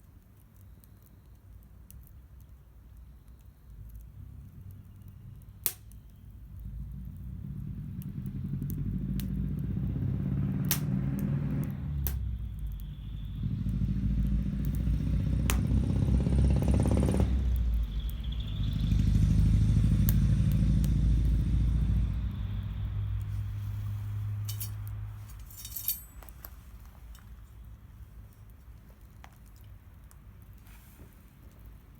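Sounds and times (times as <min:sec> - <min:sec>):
vehicles passing: 0:04.2 - 0:30.6.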